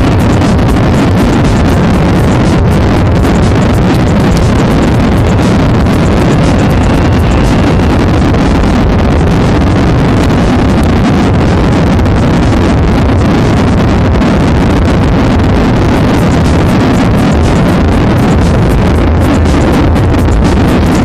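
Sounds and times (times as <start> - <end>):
airplane rumble: 0.0 - 21.0.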